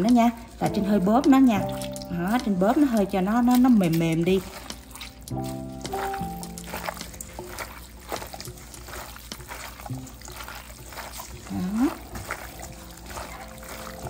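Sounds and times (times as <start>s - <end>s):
wet squelching of hands mixing meat: 0.0s - 14.0s.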